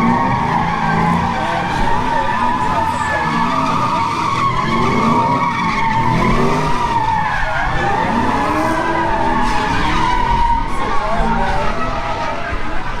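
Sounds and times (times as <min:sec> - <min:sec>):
car engine revving: 0:00.0 - 0:13.0
car tyres squealing: 0:00.0 - 0:13.0.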